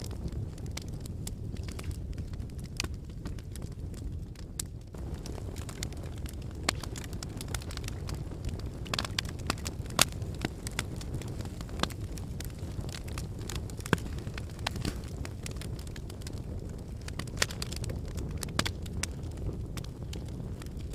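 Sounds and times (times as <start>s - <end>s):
fire crackling and popping: 0.0s - 20.9s
fire rumbling: 0.0s - 20.9s.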